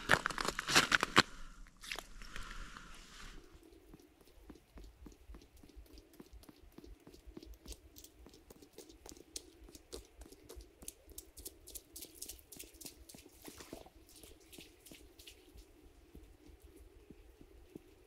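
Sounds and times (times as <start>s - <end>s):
faint ticks and crackles: 0.0s - 18.0s.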